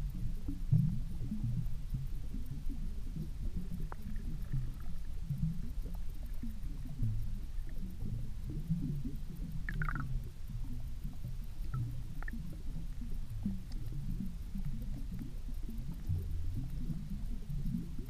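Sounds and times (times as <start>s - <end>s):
faint clicks: 0.0s - 18.0s
muffled underwater rumble: 0.0s - 18.0s.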